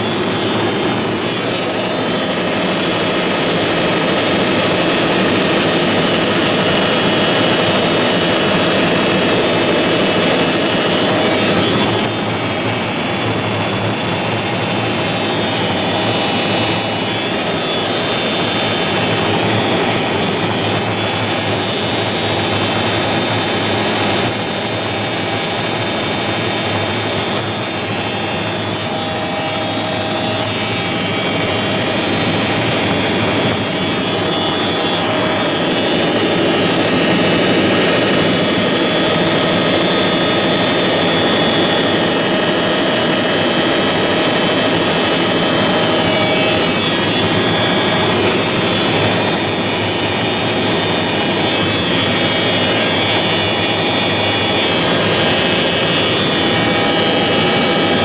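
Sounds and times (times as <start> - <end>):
helicopter engine and rotor noise: 0.0 - 58.0
whining tones: 0.0 - 58.0.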